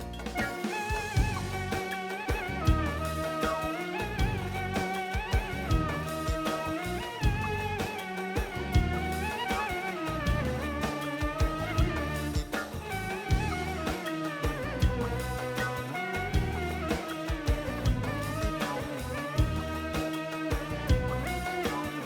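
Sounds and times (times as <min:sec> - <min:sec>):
drum kit: 0:00.0 - 0:22.0
sliding lead melody: 0:00.0 - 0:22.0.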